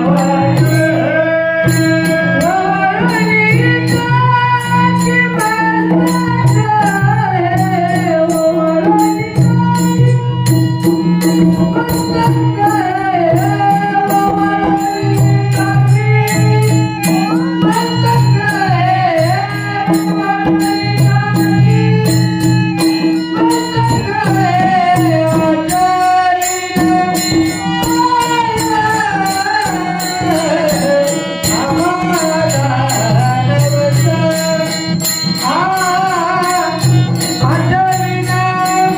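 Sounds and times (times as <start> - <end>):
man singing: 0.0 - 10.5, 11.2 - 38.9
harmonium drone and chords: 0.0 - 38.9
percussion clicking: 1.6 - 38.9.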